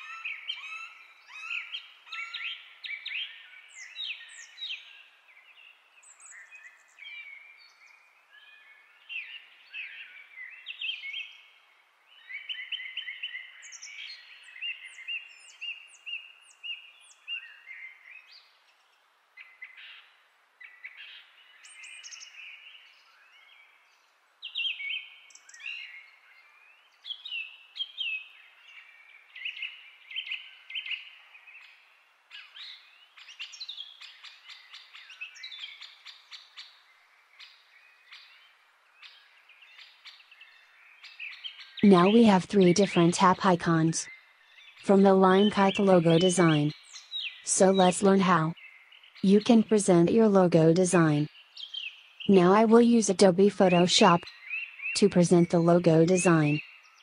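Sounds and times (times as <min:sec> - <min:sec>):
songbirds chirping and trilling: 0:00.0 - 0:43.0, 0:44.0 - 0:47.5, 0:48.5 - 0:49.3, 0:51.2 - 0:52.3.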